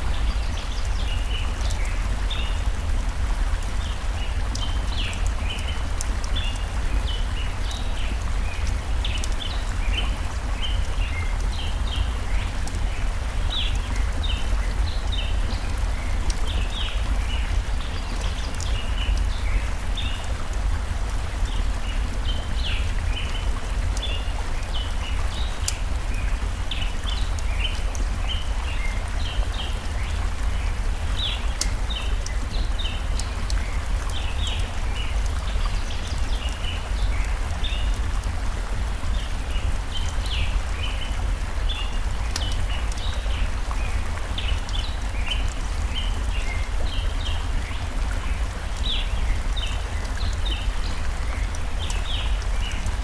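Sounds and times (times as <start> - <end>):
stream running: 0.0 - 53.0.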